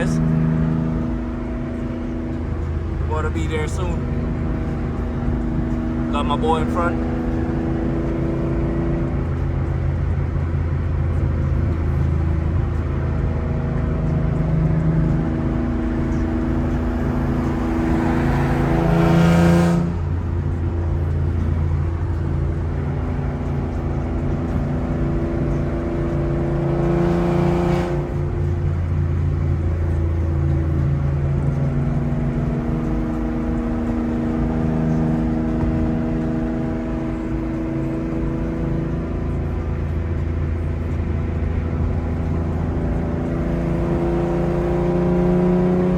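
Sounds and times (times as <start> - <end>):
car engine and exhaust cruising: 0.0 - 45.9.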